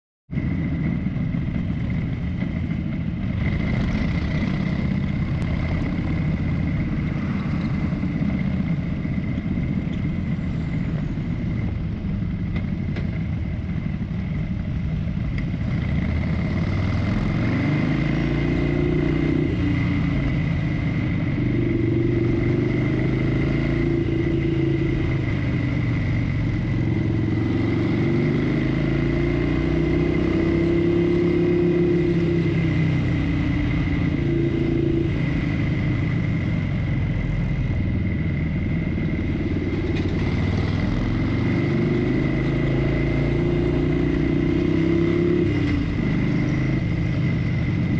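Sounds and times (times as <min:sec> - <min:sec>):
motorcycle engine revving: 0:00.3 - 0:47.9
town traffic: 0:00.3 - 0:47.9.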